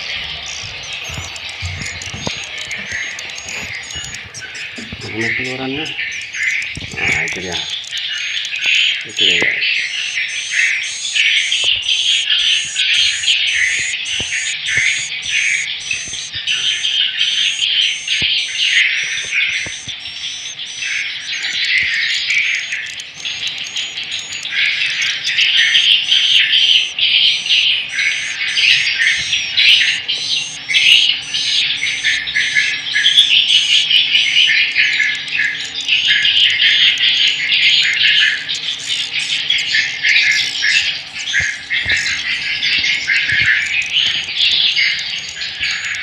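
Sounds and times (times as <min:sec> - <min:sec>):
sharp high chirp: 0:00.0 - 0:46.0
swiftlet calls twittering: 0:00.0 - 0:46.0.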